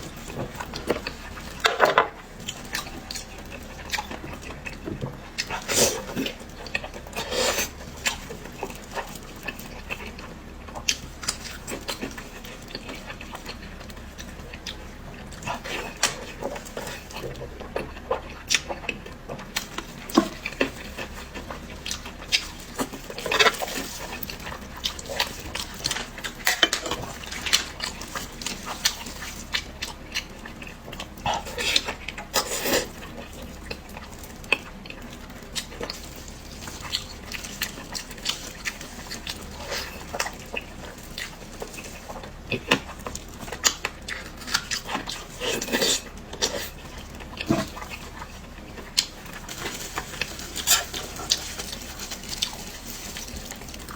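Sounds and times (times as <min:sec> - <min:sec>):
wet chewing: 0:00.0 - 0:53.9.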